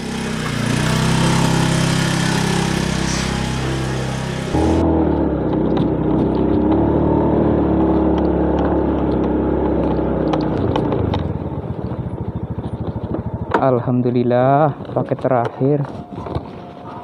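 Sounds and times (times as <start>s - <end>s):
motor scooter engine running: 0.0s - 15.3s.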